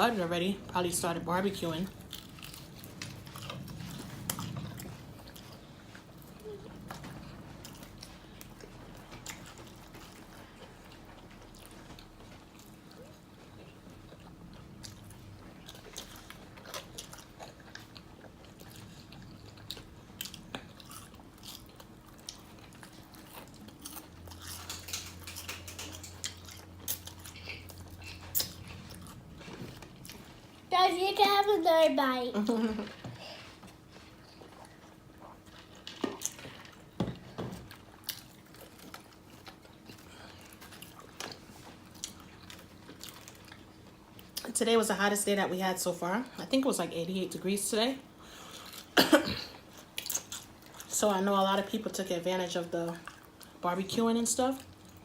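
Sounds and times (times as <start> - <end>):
chewing fried chicken: 0.2 - 30.7, 32.4 - 44.6, 47.6 - 51.8, 52.5 - 55.0.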